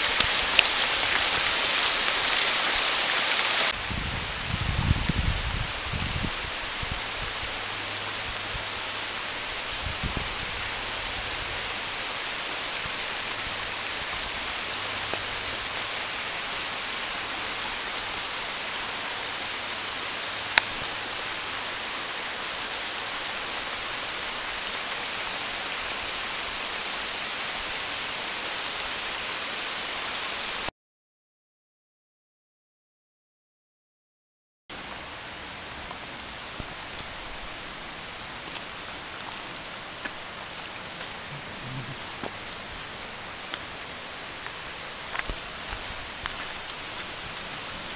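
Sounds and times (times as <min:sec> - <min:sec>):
water running over rocks: 0:00.0 - 0:30.4, 0:34.8 - 0:47.9
rain: 0:00.0 - 0:30.7, 0:34.7 - 0:47.9.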